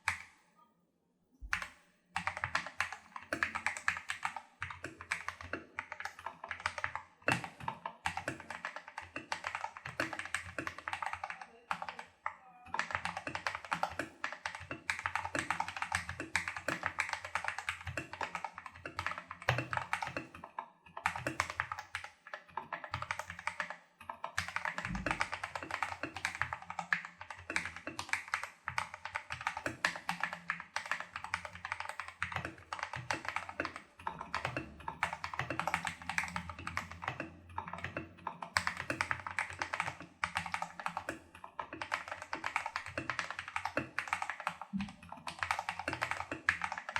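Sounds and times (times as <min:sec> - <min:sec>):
mechanical keyboard typing: 0:01.4 - 0:46.9.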